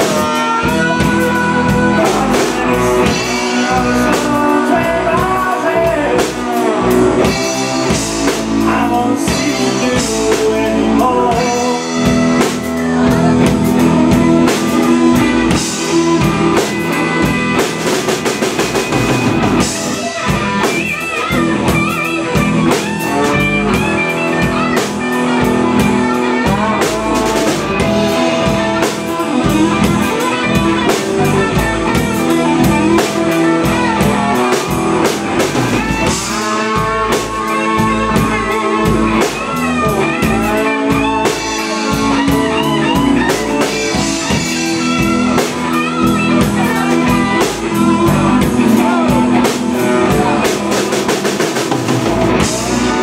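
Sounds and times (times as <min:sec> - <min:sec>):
blues rock band playing: 0:00.0 - 0:53.0.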